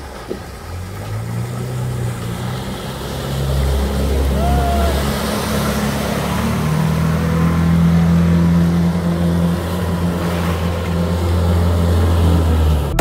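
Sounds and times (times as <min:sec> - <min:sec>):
personal watercraft engine: 0:00.0 - 0:13.0
water rushing and spraying: 0:00.0 - 0:13.0.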